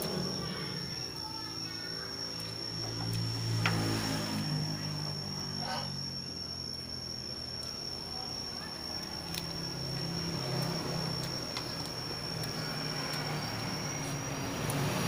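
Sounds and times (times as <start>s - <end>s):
high-pitched whine: 0.0s - 15.0s
passing vehicle engine rumble: 0.0s - 15.0s.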